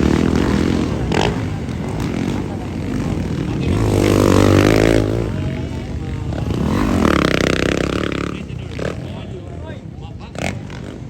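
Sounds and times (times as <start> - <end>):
motocross motorcycles revving: 0.0 - 11.0.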